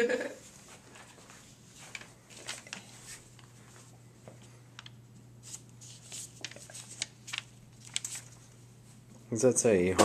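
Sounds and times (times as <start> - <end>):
paper rustling: 0.5 - 8.6.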